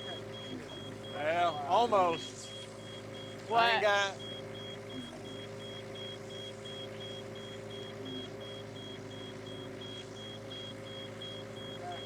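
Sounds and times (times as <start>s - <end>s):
excavator diesel engine running: 0.0s - 12.0s
rapid electronic alarm beeping: 0.0s - 12.0s.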